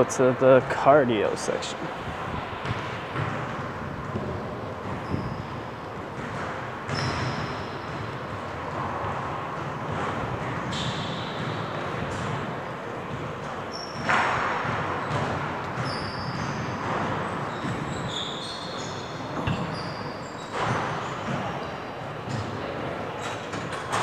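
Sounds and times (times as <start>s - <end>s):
balls bouncing on court: 1.5s - 24.0s
sneaker squeaks: 2.2s - 24.0s.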